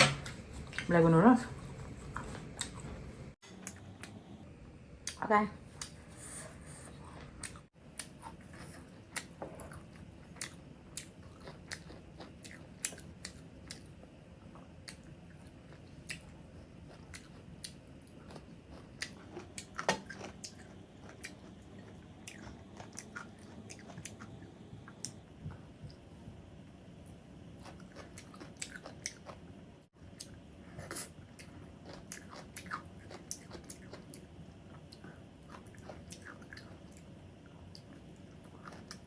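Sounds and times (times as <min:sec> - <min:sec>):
chewing with wet smacks: 0:00.2 - 0:04.2, 0:07.1 - 0:25.2, 0:27.6 - 0:29.4, 0:30.1 - 0:39.0.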